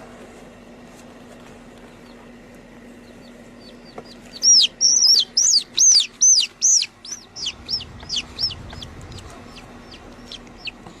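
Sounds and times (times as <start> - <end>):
bird calling: 1.8 - 11.0.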